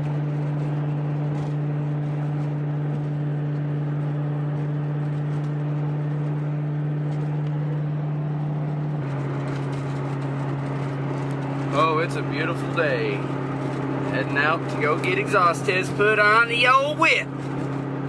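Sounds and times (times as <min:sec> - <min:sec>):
car exhaust droning: 0:00.0 - 0:18.0.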